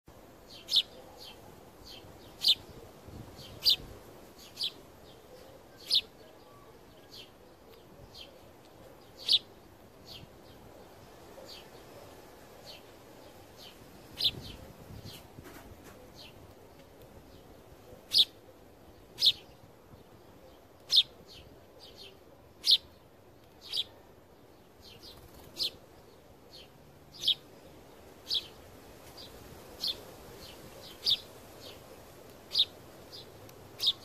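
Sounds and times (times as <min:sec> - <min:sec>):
sparrows chirping: 0:00.1 - 0:34.0.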